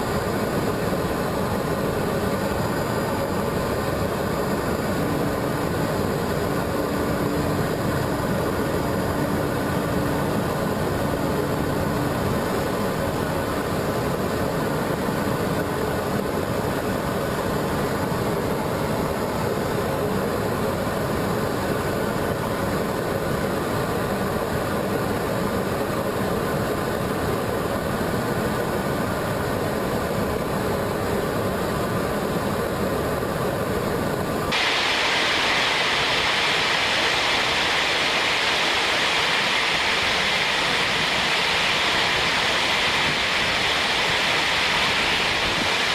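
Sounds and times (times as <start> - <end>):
aircraft engine drone: 0.0 - 45.9.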